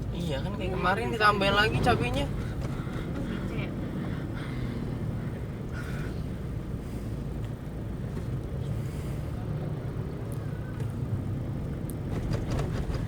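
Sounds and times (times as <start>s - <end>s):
diesel engine rumble in car cabin: 0.0s - 13.0s
road noise: 0.0s - 13.0s.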